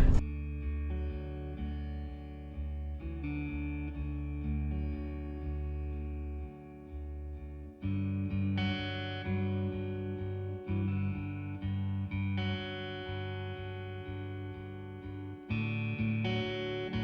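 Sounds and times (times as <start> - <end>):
guitar playing slow held notes: 0.0 - 17.0.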